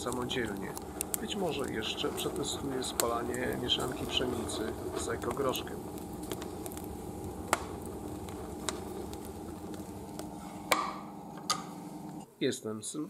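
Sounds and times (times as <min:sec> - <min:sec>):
fire crackling and popping: 0:00.0 - 0:12.3
steady low hum: 0:00.0 - 0:12.4.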